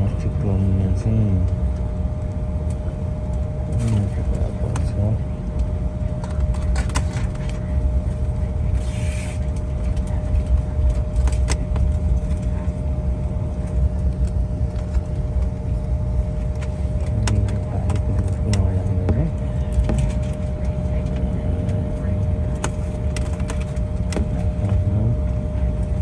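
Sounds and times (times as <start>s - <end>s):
jet cabin engine hum: 0.0s - 26.0s.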